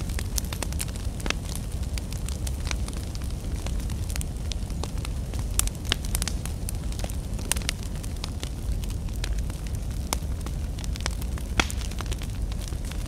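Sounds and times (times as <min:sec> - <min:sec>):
burning logs crackling and popping: 0:00.0 - 0:13.0
campfire flames rumbling: 0:00.0 - 0:13.0.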